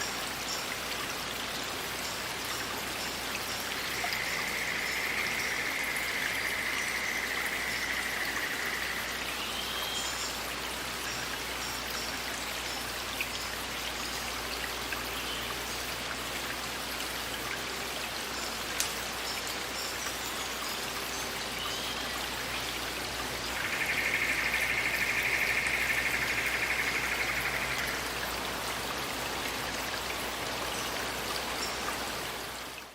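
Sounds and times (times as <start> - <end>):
flowing forest water: 0.0 - 32.9.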